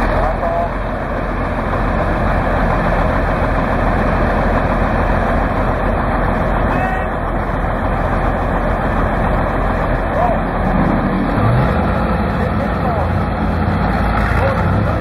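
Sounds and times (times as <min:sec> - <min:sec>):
engines under load: 0:00.0 - 0:15.0.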